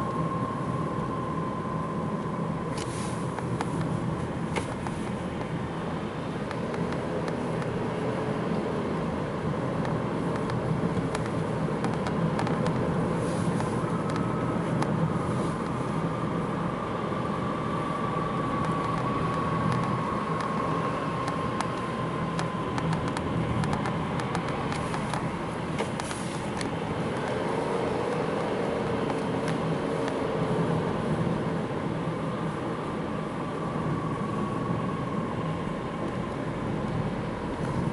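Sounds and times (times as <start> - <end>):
road and tyre noise: 0.0 - 37.9.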